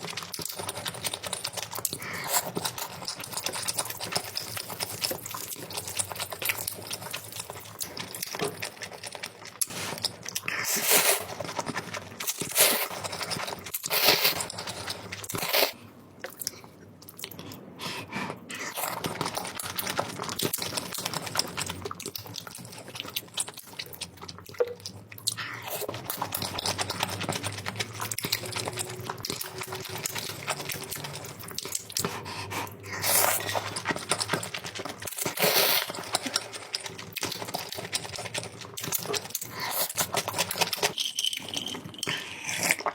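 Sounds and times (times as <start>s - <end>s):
chewing and biting: 0.0s - 42.9s.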